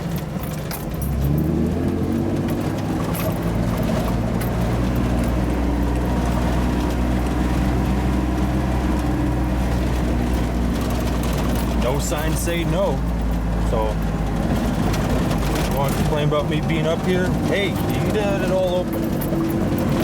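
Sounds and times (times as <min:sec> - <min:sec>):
vehicle engine pulling away: 0:00.0 - 0:20.0.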